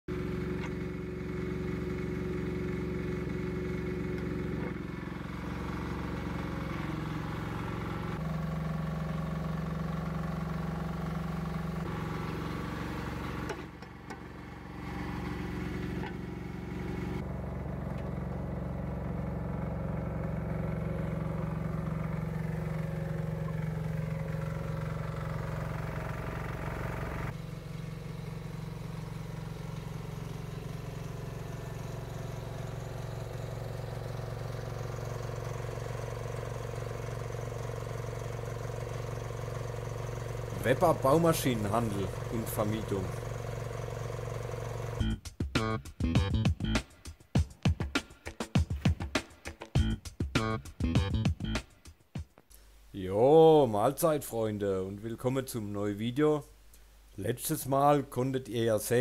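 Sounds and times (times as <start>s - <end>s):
excavator engine running: 0.1s - 51.8s.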